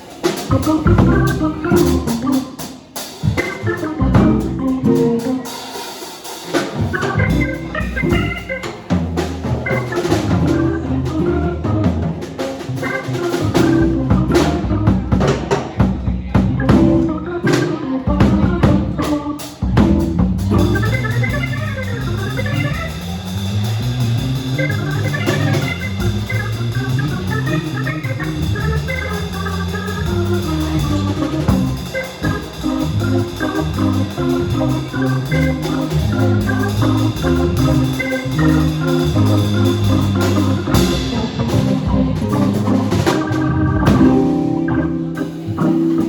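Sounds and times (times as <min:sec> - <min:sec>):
drum hits: 0:00.0 - 0:05.4, 0:06.2 - 0:46.0
organ-like keyboard chords: 0:00.0 - 0:46.0
bass line: 0:00.4 - 0:05.5, 0:06.8 - 0:46.0.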